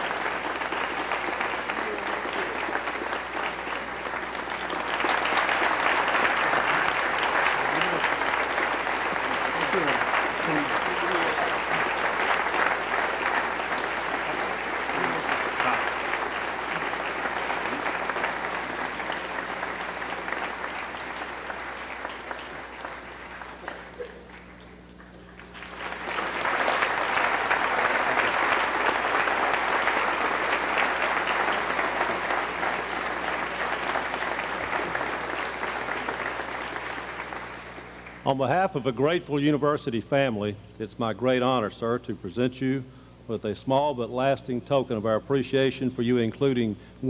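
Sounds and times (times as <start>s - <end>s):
large audience applauding: 0.0s - 39.2s.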